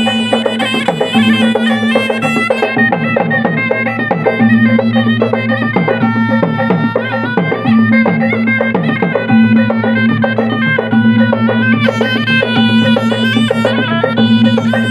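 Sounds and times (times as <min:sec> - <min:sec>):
drums beating fast rhythm: 0:00.0 - 0:14.9
shrill reed pipe melody: 0:00.0 - 0:14.9.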